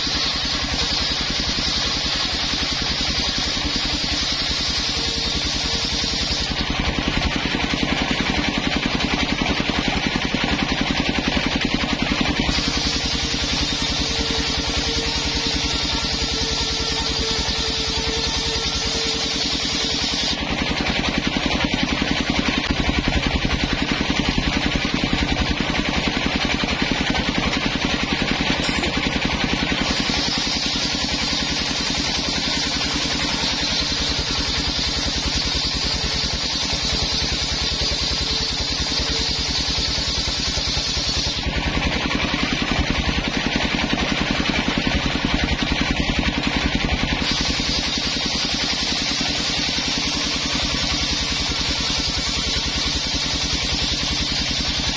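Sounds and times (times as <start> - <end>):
saw blade cutting hiss: 0.0 - 10.0, 11.9 - 22.7, 23.7 - 54.9
saw engine pulsing: 0.0 - 54.9.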